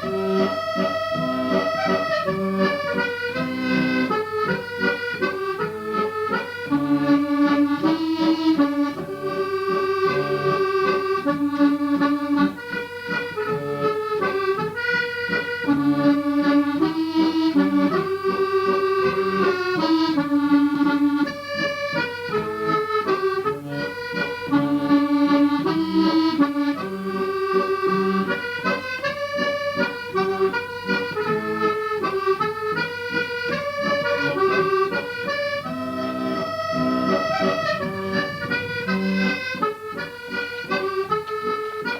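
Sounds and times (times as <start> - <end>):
accordion playing a tune: 0.0 - 41.9.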